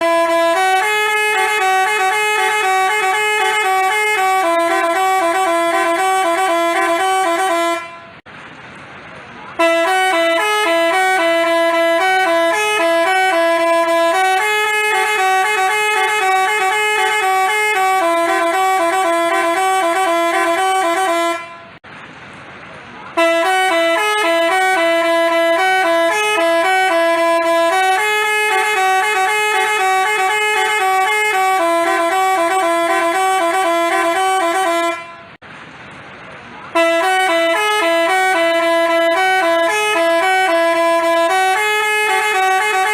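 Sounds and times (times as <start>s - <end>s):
bus horn playing a tune: 0.0s - 8.2s, 9.5s - 21.8s, 23.1s - 35.4s, 36.7s - 42.9s.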